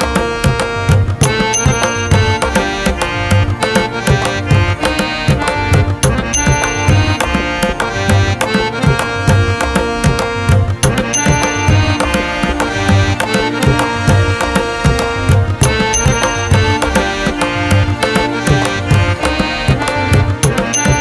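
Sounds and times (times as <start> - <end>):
steady drum beat: 0.0 - 21.0
sustained melodic notes: 0.0 - 21.0.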